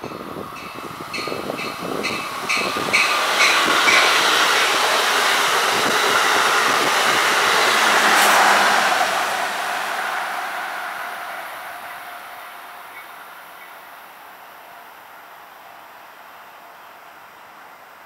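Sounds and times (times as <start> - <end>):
passenger train rushing past: 0.0 - 18.0.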